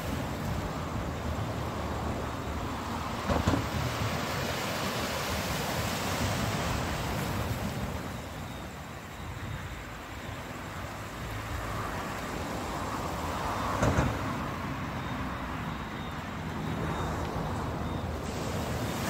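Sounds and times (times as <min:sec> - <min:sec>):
sea surf on rocky shore: 0:00.0 - 0:19.0.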